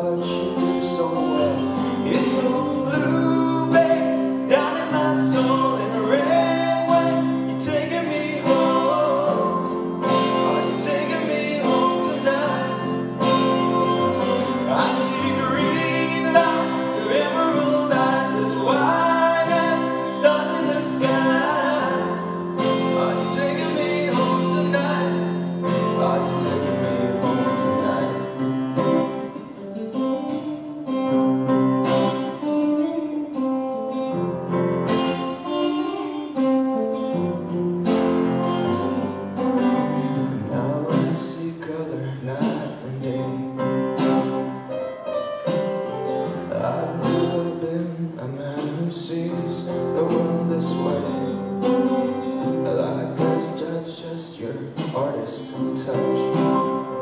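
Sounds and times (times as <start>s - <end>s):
man singing: 0.0s - 29.4s, 38.2s - 44.5s, 46.2s - 57.0s
guitar: 0.0s - 57.0s
keyboard: 0.0s - 57.0s.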